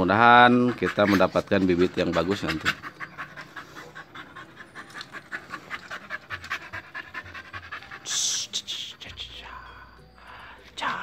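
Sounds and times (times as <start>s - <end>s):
dog panting: 0.0s - 9.2s.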